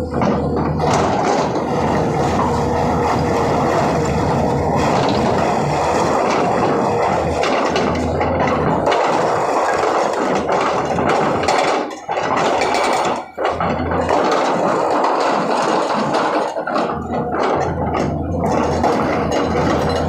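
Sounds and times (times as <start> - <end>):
hydraulic rock breaker hammering rock: 0.0 - 20.0.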